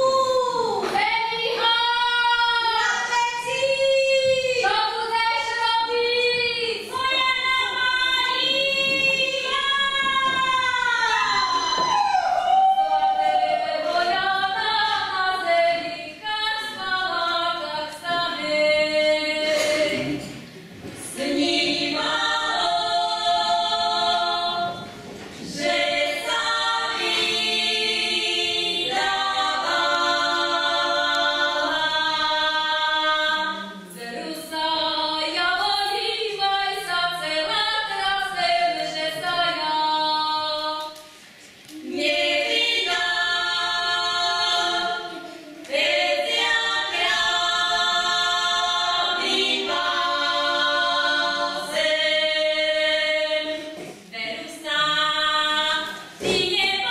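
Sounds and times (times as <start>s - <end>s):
women singing unaccompanied: 0.0s - 20.4s, 21.0s - 56.9s.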